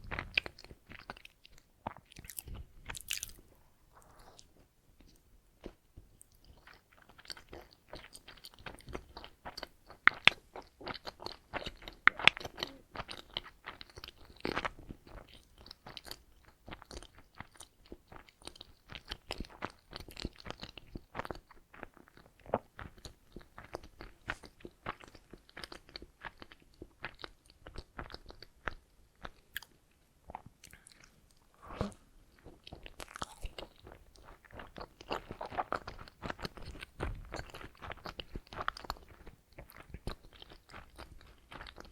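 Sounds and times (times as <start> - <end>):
wet chewing and mouth smacks: 0.0 - 41.9.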